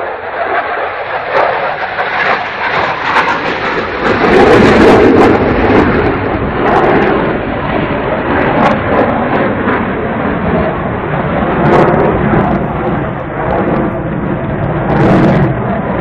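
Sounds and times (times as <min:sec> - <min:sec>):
fighter jet engine roar: 0:00.0 - 0:16.0.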